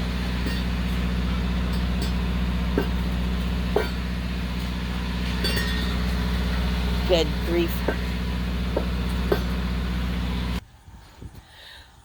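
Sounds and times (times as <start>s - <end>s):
truck engine idling: 0.0s - 10.6s.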